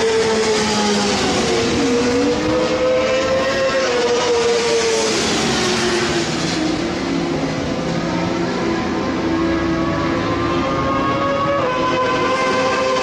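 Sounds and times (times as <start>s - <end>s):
distant racing engines: 0.0s - 13.0s.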